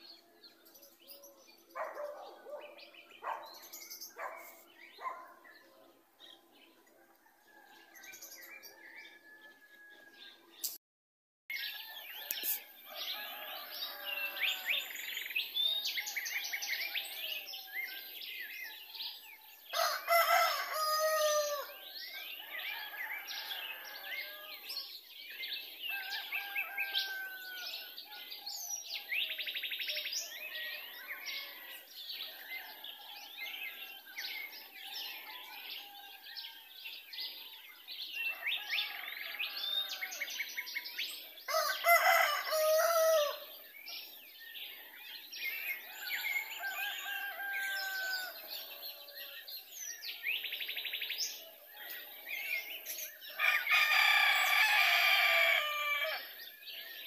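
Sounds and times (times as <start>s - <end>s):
birds singing and chirping: 0.0s - 10.8s, 11.5s - 57.0s.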